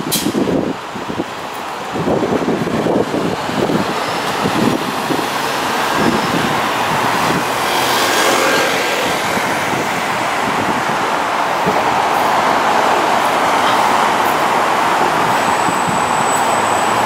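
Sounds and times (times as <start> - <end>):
truck pulling away: 0.1 - 17.0
car passing close by: 2.9 - 17.0.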